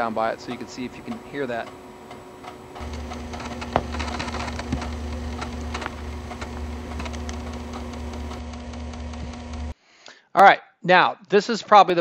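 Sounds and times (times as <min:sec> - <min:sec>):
floppy drive humming: 0:00.0 - 0:09.8
floppy drive ticking and buzzing: 0:00.0 - 0:09.8.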